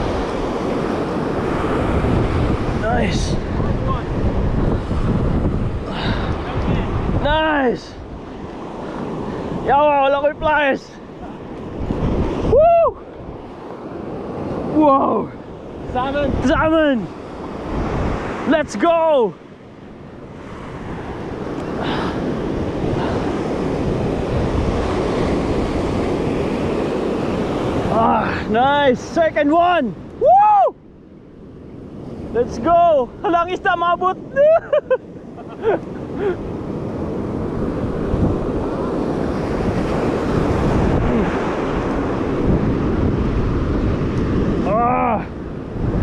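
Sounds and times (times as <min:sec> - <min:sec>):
ocean surf breaking on beach: 0:00.0 - 0:46.0
wind buffeting microphone: 0:00.0 - 0:46.0.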